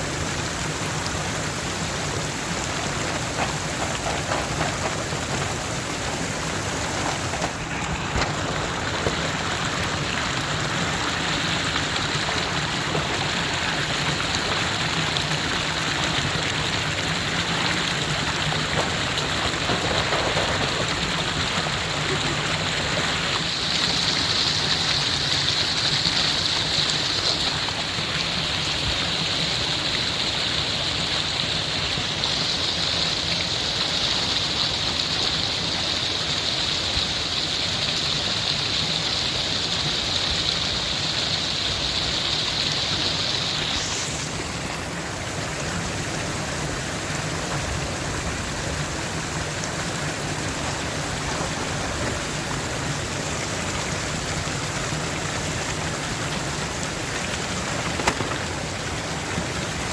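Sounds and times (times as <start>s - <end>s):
rushing water of waterfall: 0.0s - 59.9s.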